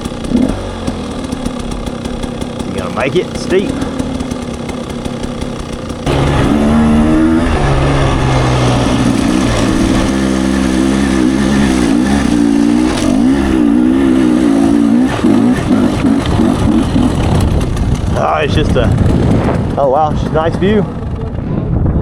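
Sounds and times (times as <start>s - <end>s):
dirt bike engine revving: 0.0s - 21.8s.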